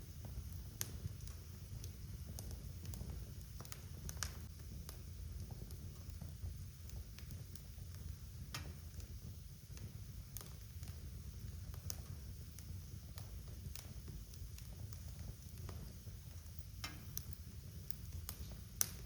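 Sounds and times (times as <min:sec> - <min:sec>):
low rumble of burning: 0:00.0 - 0:19.0
wood fire pops and snaps: 0:00.0 - 0:19.0.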